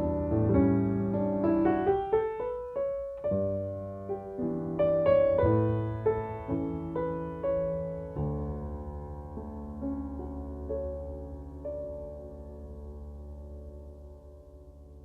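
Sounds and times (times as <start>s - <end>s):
slow gentle piano piece: 0.0s - 15.0s.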